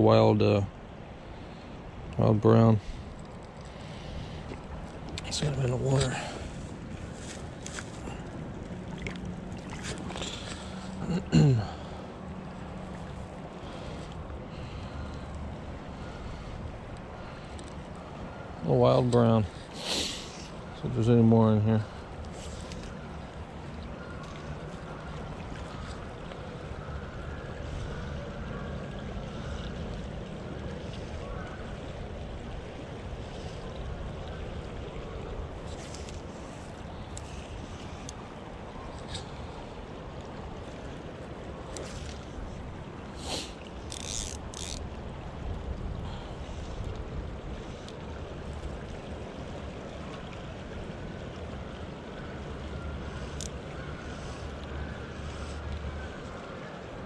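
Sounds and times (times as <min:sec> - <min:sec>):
creek running over stones: 0:02.2 - 0:57.0.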